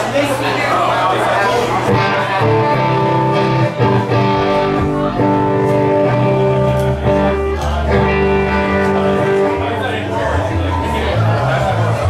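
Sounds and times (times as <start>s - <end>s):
electric guitar chords: 1.9s - 11.6s
bass guitar notes: 1.9s - 12.0s.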